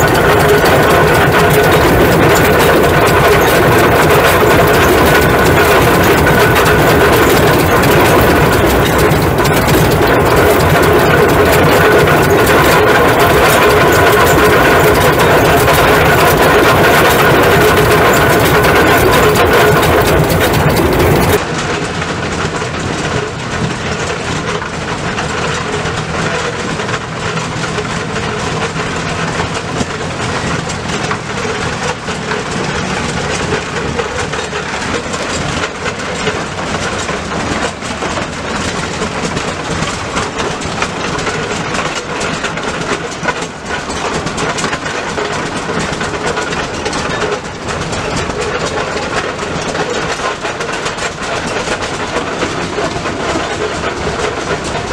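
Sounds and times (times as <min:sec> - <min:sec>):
farm machinery engine rattling: 0:00.0 - 0:54.9.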